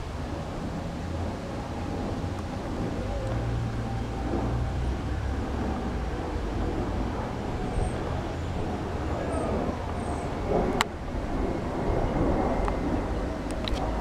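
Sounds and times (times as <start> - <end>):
low hum: 0.0 - 14.0
outdoor background rumble and hiss: 0.0 - 14.0.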